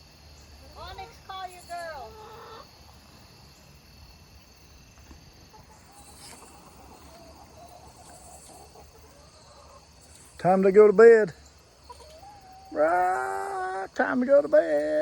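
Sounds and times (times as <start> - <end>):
constant high-pitched tone: 0.0 - 15.0
crickets chirring: 0.0 - 15.0.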